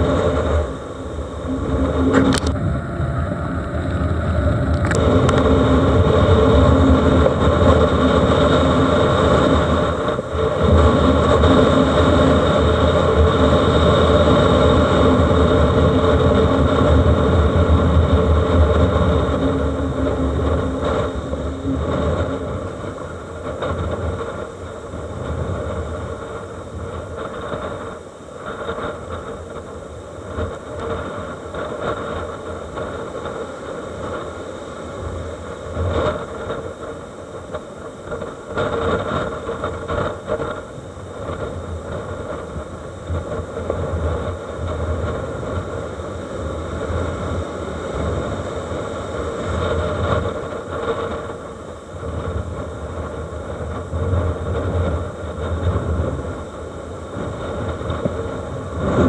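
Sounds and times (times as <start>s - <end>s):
heavy surf: 0.0s - 59.0s
strong wind: 0.0s - 59.0s.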